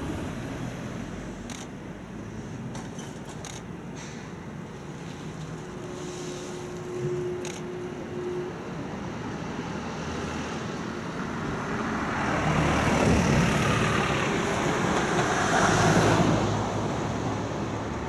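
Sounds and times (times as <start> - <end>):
streetcar passing on a curve: 0.0 - 18.0.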